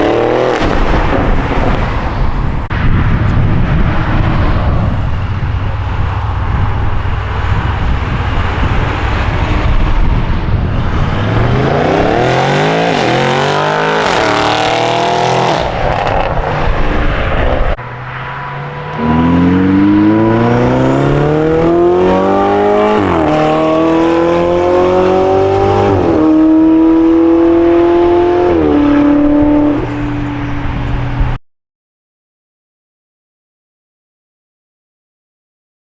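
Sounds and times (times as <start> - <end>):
car engine revving and accelerating: 0.0 - 1.8, 3.2 - 31.4.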